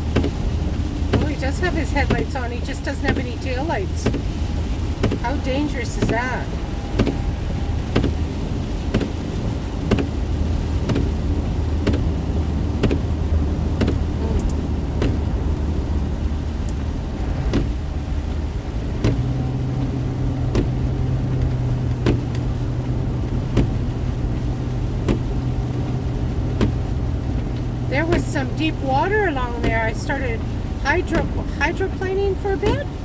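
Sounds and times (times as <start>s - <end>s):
car engine and road drone: 0.0s - 33.0s
steady rain: 0.0s - 33.0s
wet tyre noise: 0.0s - 33.0s.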